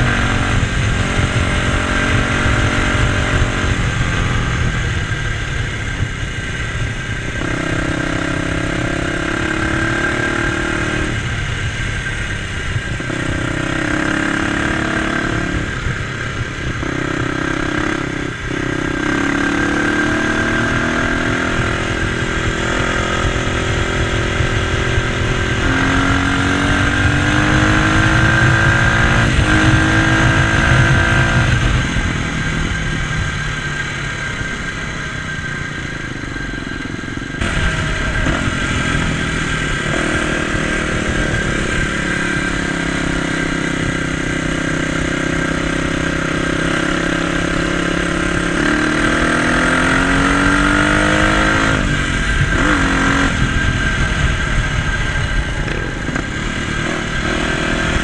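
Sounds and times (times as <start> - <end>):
dirt bike engine revving: 0.0 - 58.0
wind rumbling on microphone: 0.0 - 58.0.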